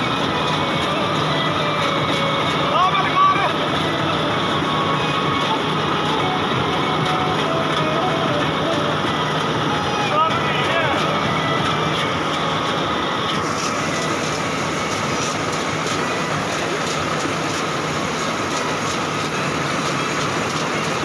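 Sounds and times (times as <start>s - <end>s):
constant high whine: 0.0s - 21.0s
farm machinery engine drone: 0.0s - 21.0s.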